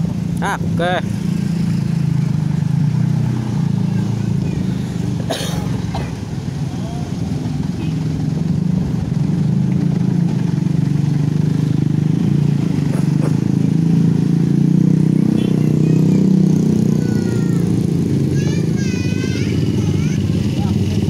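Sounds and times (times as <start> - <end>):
small motorcycle engines passing: 0.0 - 21.0
truck diesel engine droning: 0.0 - 21.0.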